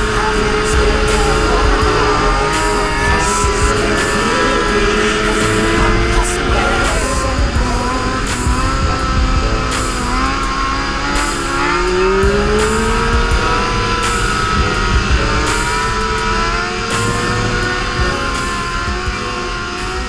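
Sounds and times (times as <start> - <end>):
hip-hop track with steady beat: 0.0 - 20.0.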